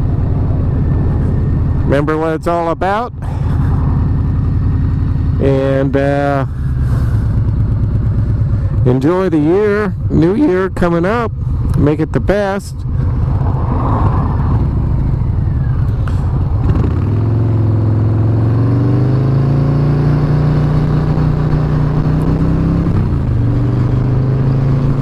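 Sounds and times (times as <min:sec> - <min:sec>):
motorcycle engine accelerating: 0:00.0 - 0:11.8, 0:12.8 - 0:25.0.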